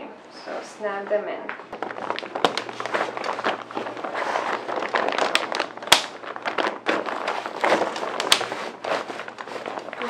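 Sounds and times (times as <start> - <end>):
fabric rustling and crinkling: 1.7 - 10.0.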